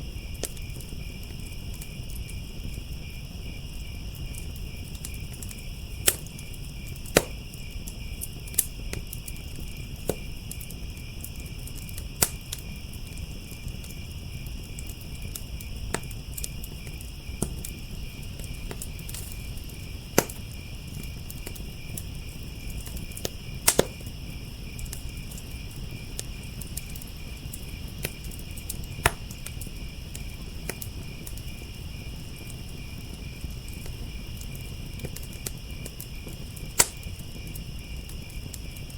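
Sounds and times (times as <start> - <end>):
crickets chirping: 0.0 - 38.9
wood fire crackling: 0.0 - 38.9.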